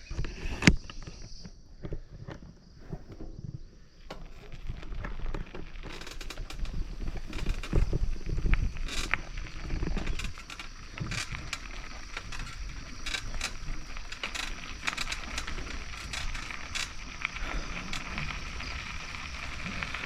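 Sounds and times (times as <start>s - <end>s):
bicycle rattling on rough track: 2.0s - 20.0s.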